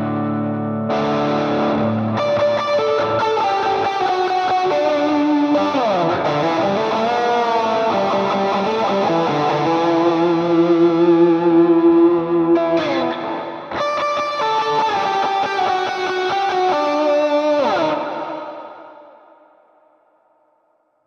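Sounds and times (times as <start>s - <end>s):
electric guitar ringing chords: 0.0s - 19.4s
electric guitar lead melody: 0.0s - 19.5s.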